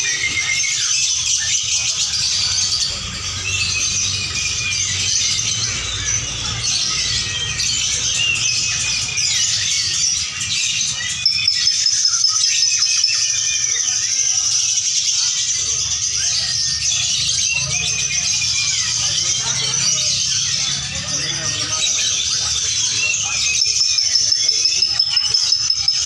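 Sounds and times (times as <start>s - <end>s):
lovebirds chirping and trilling: 0.0s - 26.0s.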